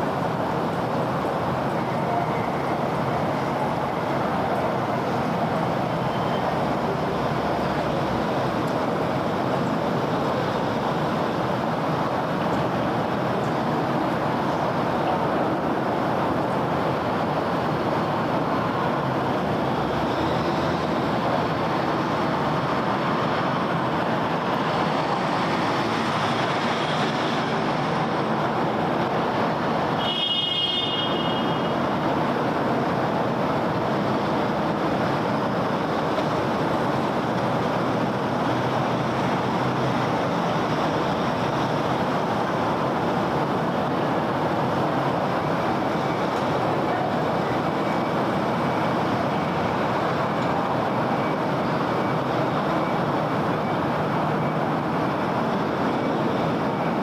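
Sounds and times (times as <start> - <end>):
road traffic: 0.0 - 57.0.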